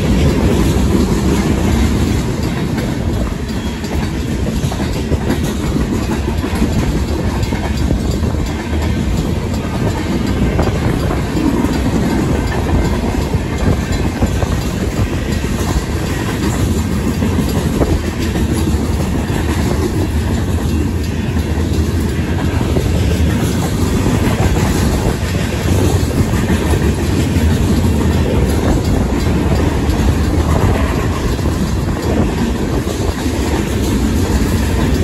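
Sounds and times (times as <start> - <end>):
crossing bells ringing: 0.0 - 35.0
wheels clacking over rail joints: 0.0 - 35.0.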